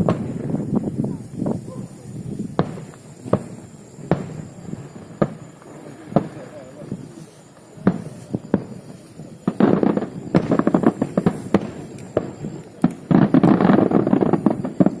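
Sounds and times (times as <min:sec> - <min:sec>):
fireworks bangs: 0:00.0 - 0:15.0
fireworks rapid crackling: 0:00.0 - 0:15.0.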